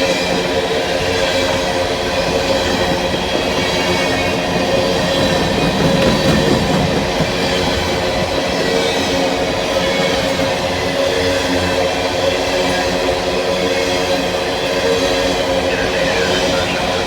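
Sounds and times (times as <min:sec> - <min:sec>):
train wheels clacking over rails: 0:00.0 - 0:17.0.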